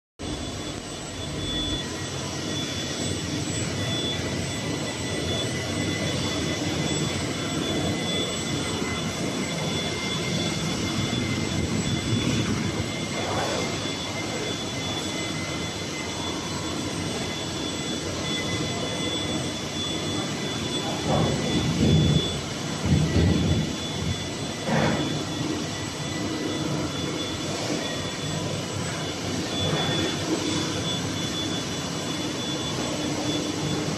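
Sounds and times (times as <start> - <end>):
factory machinery running: 0.2 - 33.9
high-pitched machine whines: 0.2 - 33.9.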